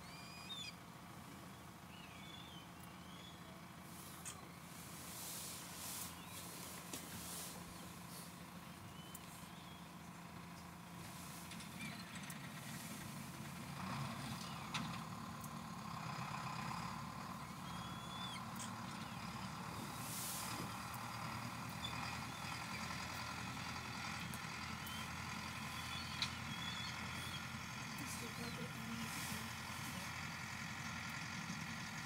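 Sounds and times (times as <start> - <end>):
tractor engine running: 0.6 - 32.0.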